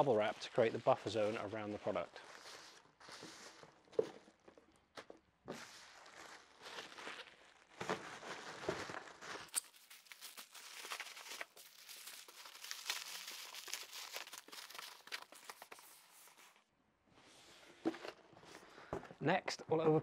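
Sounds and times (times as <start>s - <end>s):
bubble wrap crinkling: 0.2s - 16.6s.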